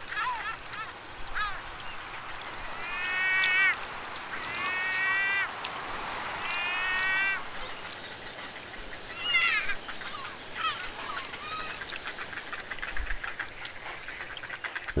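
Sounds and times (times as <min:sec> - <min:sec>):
river water rushing: 0:00.0 - 0:13.8
water birds calling: 0:00.0 - 0:15.0.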